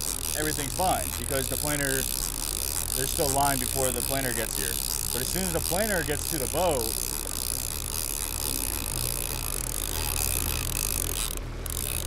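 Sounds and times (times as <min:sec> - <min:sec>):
boat engine running: 0:00.0 - 0:12.0
fishing reel winding: 0:00.0 - 0:12.0
water noise: 0:00.0 - 0:12.0
wind: 0:00.0 - 0:12.0.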